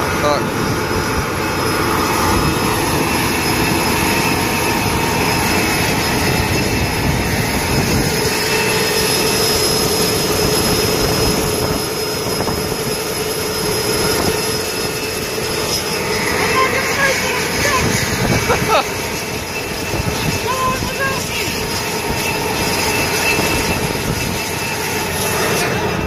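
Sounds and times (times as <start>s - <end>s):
turbine engine whine: 0.0s - 26.0s
wind buffeting microphone: 0.0s - 26.0s.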